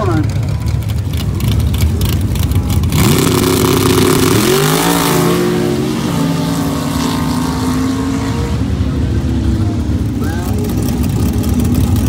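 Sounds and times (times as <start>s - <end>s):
buggy engine accelerating: 0.0s - 12.0s.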